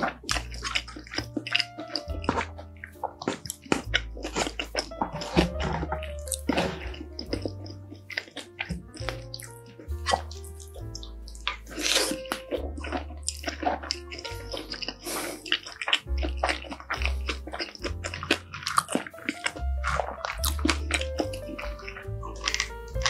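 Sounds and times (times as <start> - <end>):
soft background music with bass: 0.0 - 23.0
wet chewing with mouth clicks: 0.0 - 23.0.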